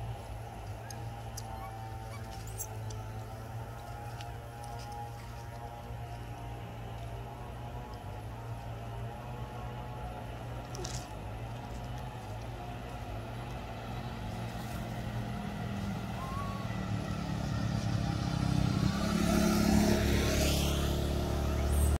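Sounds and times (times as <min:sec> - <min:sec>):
vehicle engine approaching: 0:00.0 - 0:22.0.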